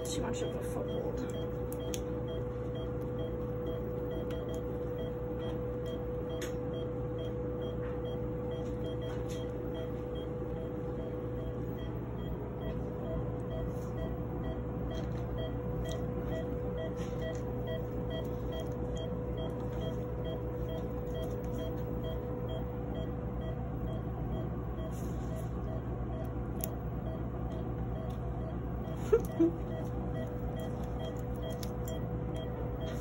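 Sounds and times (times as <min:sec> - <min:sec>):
monitor pulse beeps: 0:00.0 - 0:33.0
steady equipment tone: 0:00.0 - 0:33.0.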